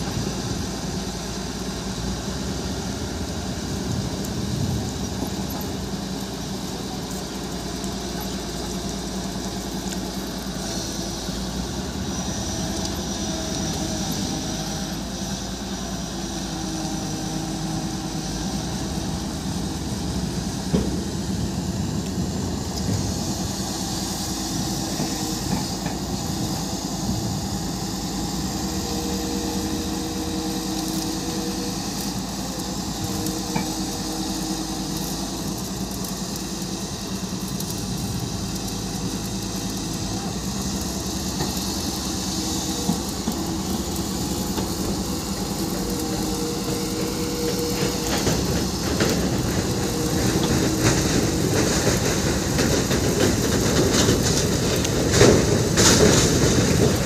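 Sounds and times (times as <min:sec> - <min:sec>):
excavator diesel engine working: 0:00.0 - 0:57.0.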